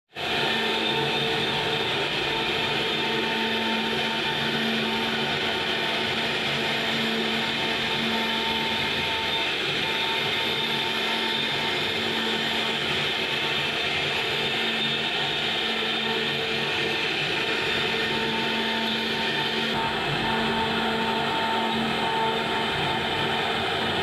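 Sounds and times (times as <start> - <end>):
cnc router spindle whine: 0.1 - 24.0.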